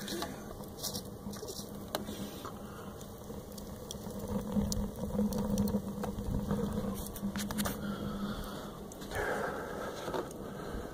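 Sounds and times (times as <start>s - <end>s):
fire clicks and crackles: 0.0s - 10.9s
stove draft rushing rumble: 0.0s - 10.9s.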